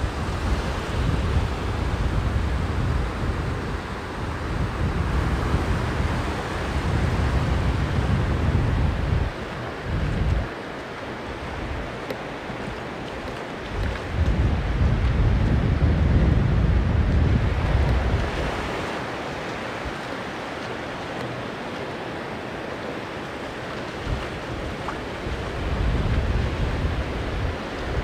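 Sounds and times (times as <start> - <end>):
wind buffeting microphone: 0.0 - 21.6, 23.2 - 28.0
surf washing on beach: 0.0 - 28.0.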